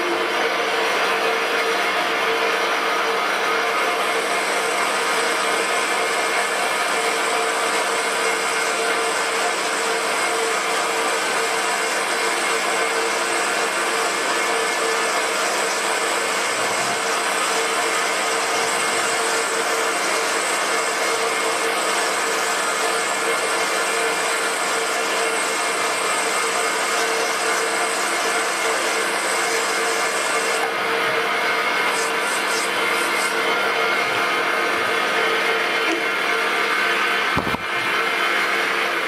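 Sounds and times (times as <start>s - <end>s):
lathe tool cutting brass: 0.0s - 39.0s
metal lathe running: 0.0s - 39.0s.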